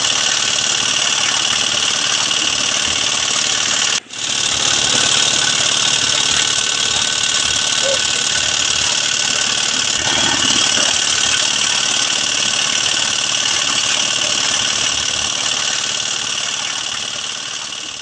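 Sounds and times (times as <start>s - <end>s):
engine chugging: 0.0s - 18.0s.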